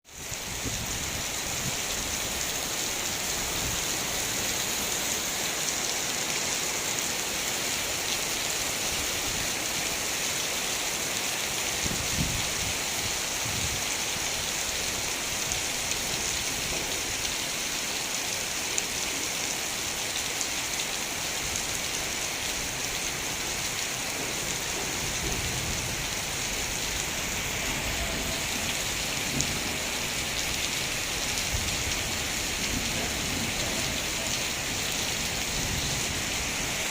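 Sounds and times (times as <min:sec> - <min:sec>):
heavy rain hissing: 0:00.1 - 0:36.9.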